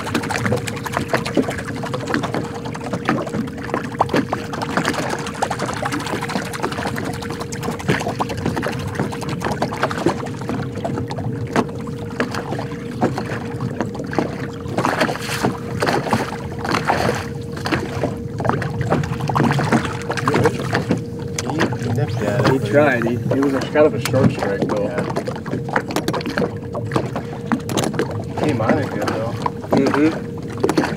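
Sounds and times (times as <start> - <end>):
high-pitched hum: 0.0 - 30.9
water lapping against boat hull: 0.0 - 30.9.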